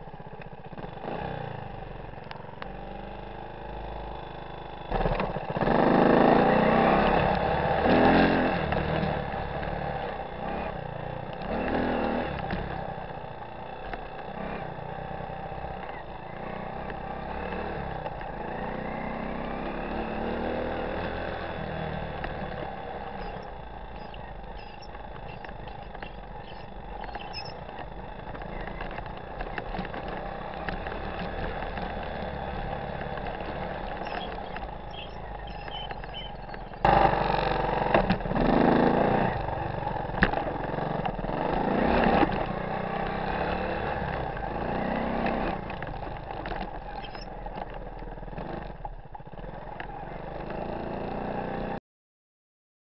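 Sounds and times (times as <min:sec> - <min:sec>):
small engine revving: 0:00.7 - 0:51.8.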